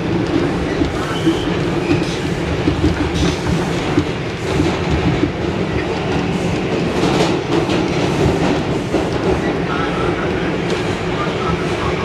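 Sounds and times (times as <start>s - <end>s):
subway wheels rumbling on rails: 0.0s - 12.0s.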